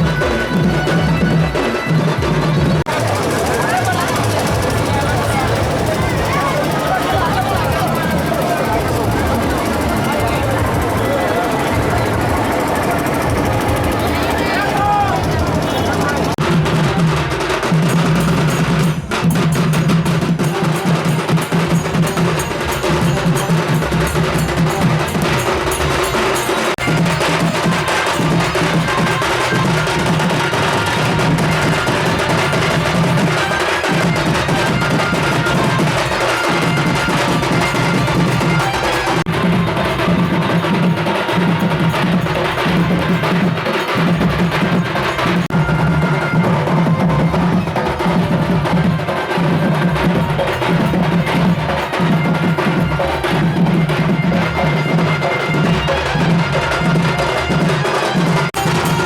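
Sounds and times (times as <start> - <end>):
fast percussion music: 0.0 - 59.0.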